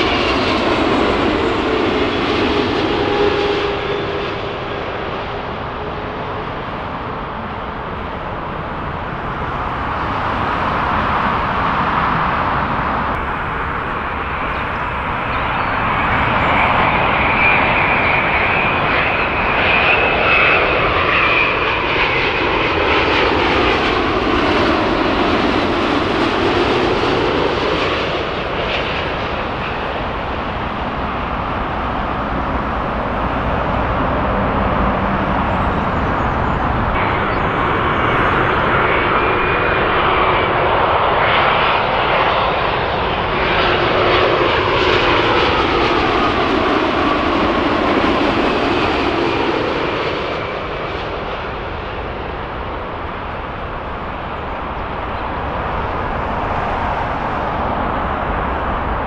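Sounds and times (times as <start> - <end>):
jet engines rushing with whine: 0.0 - 59.0.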